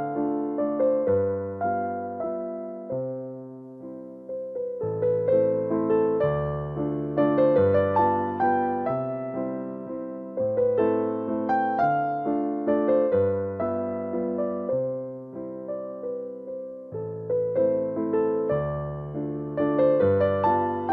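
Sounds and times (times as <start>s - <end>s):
electric piano melody: 0.0s - 20.9s.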